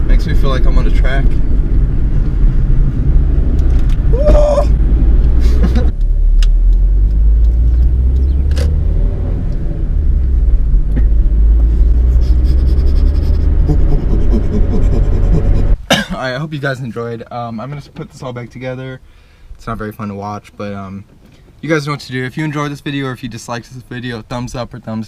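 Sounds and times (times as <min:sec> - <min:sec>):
engine and road noise rumble: 0:00.0 - 0:25.0.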